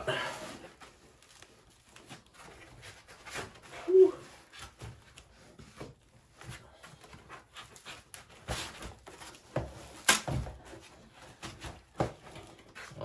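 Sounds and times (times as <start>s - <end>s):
foam and cardboard rustling: 0.0s - 13.0s.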